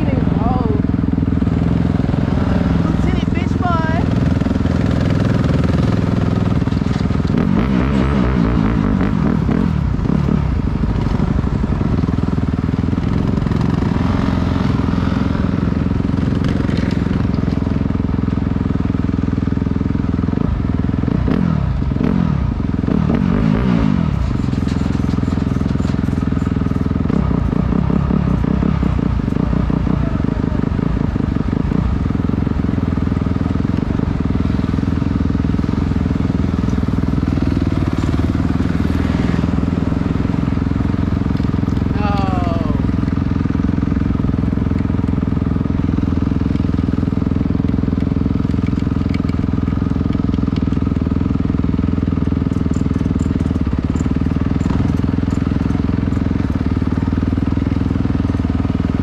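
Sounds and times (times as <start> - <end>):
dirt bike engine revving: 0.0 - 18.2, 20.2 - 24.4, 25.1 - 59.0.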